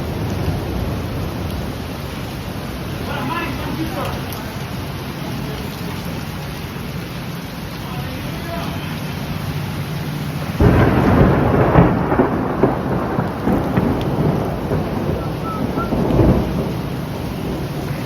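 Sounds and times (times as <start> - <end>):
thunder crackling and rumbling: 0.0 - 6.5, 9.2 - 18.0
heavy rain: 0.0 - 18.0.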